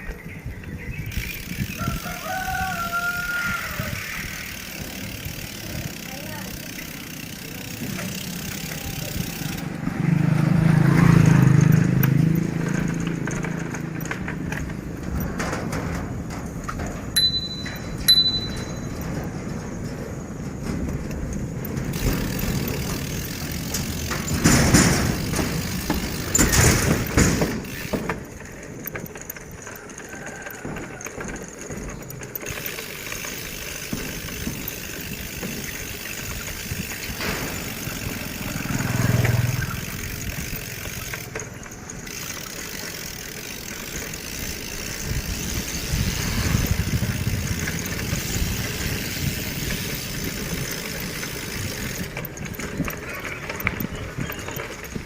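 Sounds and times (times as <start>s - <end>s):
road and wind noise: 0.0s - 55.0s
vehicles passing: 0.0s - 55.0s.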